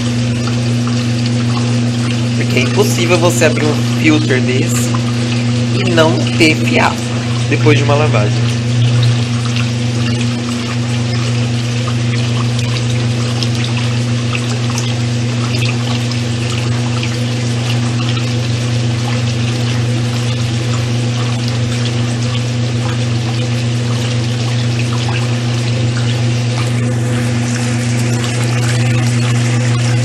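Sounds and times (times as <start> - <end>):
drain pump humming: 0.0 - 30.0
water pouring and splashing: 0.0 - 30.0.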